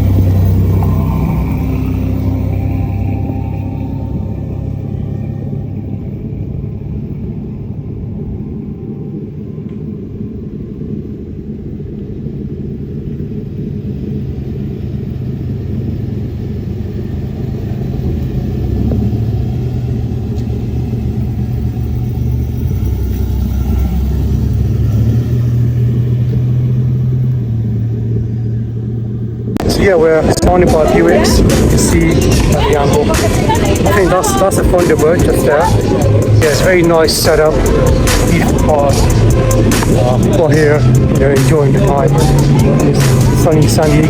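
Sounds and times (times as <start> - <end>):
car engine rumbling: 0.0 - 44.0.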